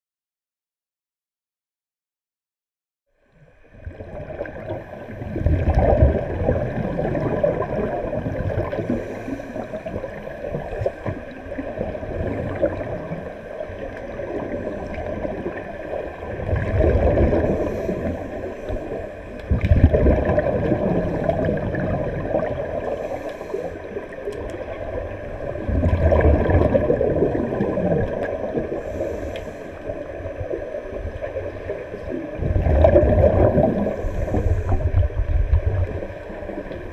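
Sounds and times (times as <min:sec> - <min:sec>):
underwater background: 0:03.1 - 0:36.9
regulator bubbles gurgling underwater: 0:03.3 - 0:36.9.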